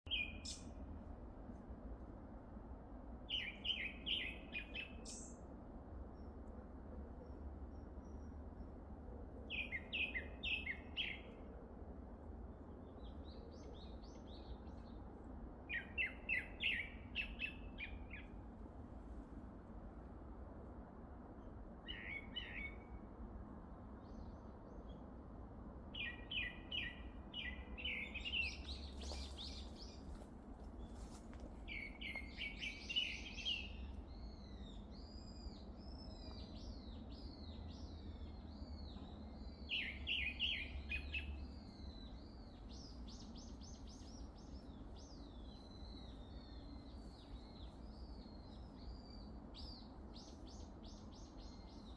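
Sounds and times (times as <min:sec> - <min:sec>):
songbirds chirping: 0:02.9 - 0:20.4, 0:21.0 - 0:51.9.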